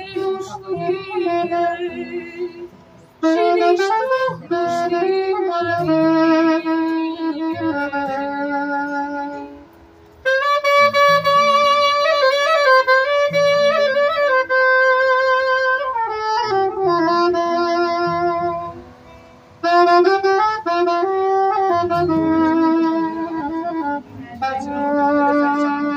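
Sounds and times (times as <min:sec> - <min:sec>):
solo clarinet ballad melody: 0:00.0 - 0:25.9.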